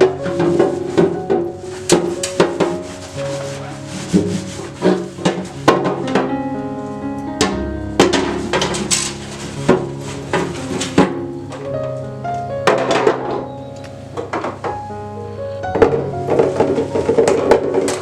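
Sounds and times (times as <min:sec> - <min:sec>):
background music sustained notes: 0:00.0 - 0:18.0.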